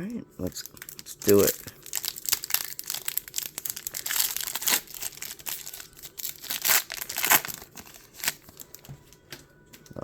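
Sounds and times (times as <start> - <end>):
foil packaging tearing and crinkling: 0.4 - 8.9.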